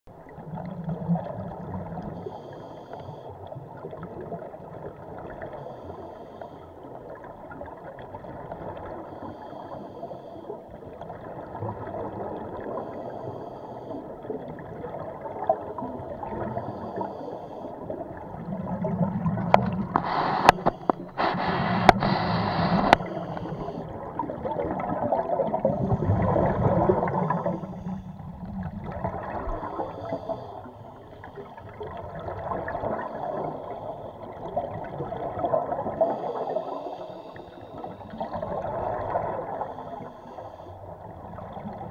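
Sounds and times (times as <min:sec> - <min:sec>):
regulator bubbles gurgling underwater: 0:00.1 - 0:41.9.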